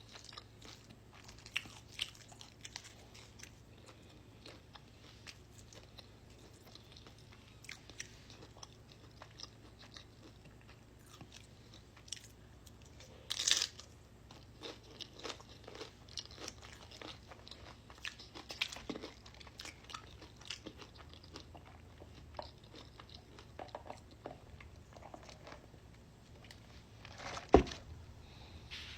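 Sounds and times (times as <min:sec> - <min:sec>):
person chewing crunchy chips: 0:00.0 - 0:27.5.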